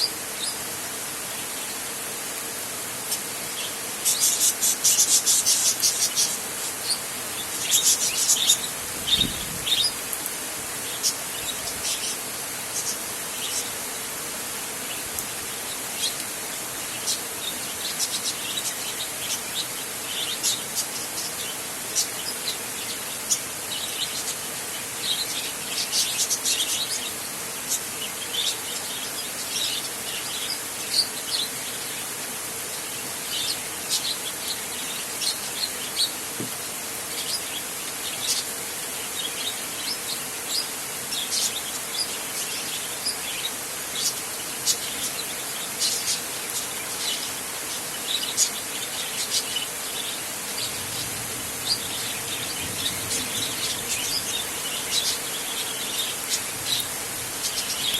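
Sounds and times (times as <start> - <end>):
rain hiss: 0.0 - 57.9
birds chirping: 3.0 - 57.9.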